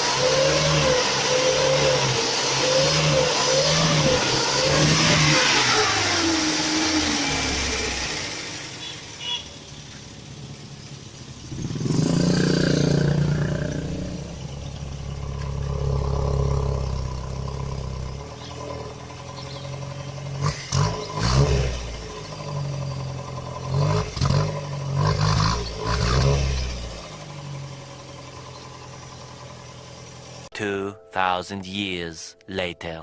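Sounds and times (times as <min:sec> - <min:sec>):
car engine starting and revving: 0:00.0 - 0:30.5.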